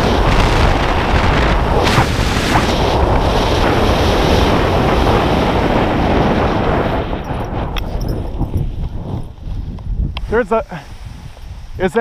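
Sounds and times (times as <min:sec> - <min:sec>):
strong wind on microphone: 0:00.0 - 0:12.0.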